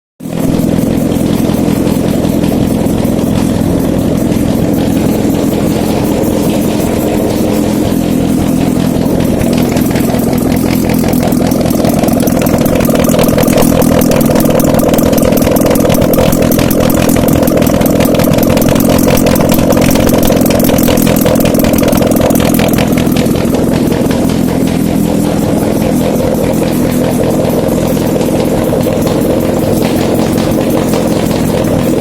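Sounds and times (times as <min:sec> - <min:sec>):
engine running on test stand: 0:00.2 - 0:32.0.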